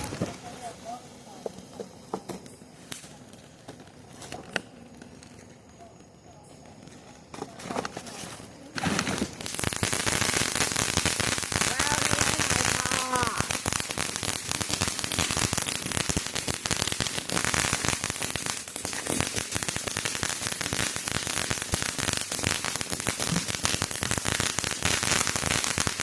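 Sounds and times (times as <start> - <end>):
firework crackling: 0.0 - 26.0.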